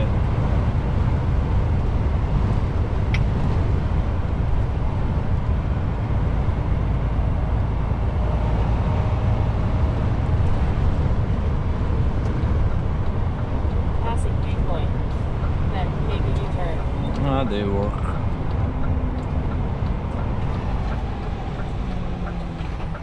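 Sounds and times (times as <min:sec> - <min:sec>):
truck engine drone from cab: 0:00.0 - 0:23.0.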